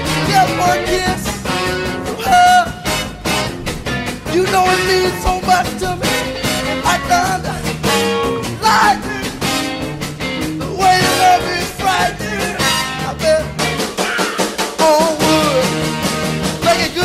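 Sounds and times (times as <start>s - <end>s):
drum kit: 0.0s - 17.0s
guitar: 0.0s - 17.0s
lead vocal melody: 0.0s - 17.0s.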